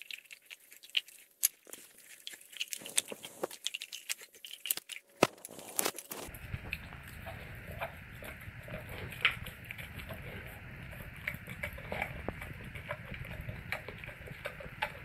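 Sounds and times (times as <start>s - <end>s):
dog chewing bones: 0.0s - 15.0s.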